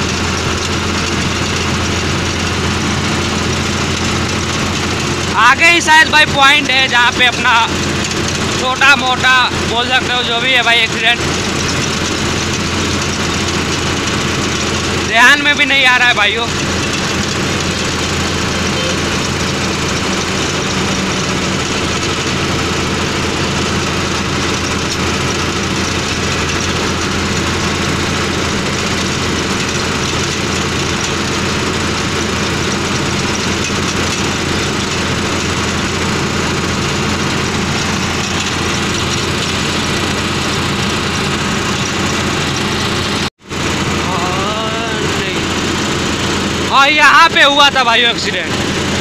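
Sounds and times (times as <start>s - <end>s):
road and wind noise: 0.0s - 49.0s
truck diesel engine running: 0.0s - 49.0s.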